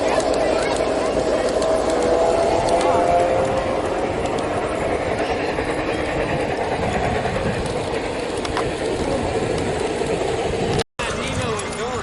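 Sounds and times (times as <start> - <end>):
model train rumbling: 0.0 - 12.0.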